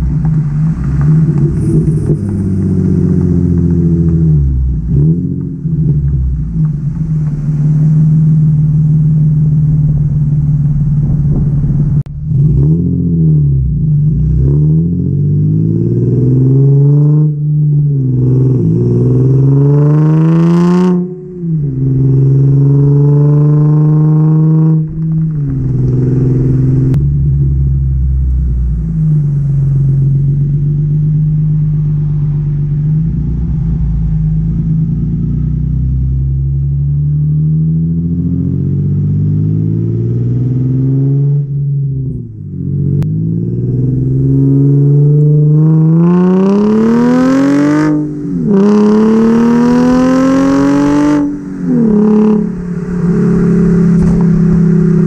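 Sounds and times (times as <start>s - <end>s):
car exhaust revving and cruising: 0.0s - 55.0s.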